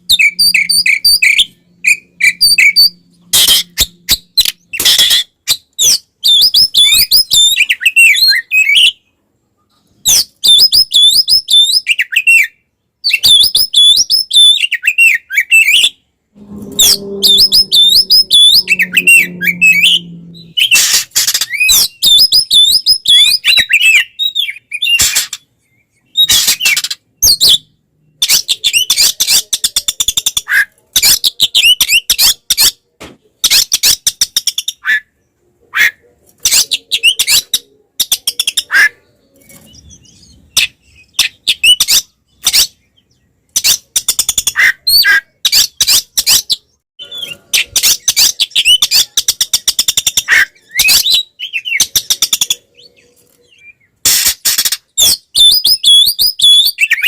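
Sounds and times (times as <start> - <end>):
magpie-robin singing: 0.0 - 9.1, 10.1 - 32.8, 33.4 - 57.0.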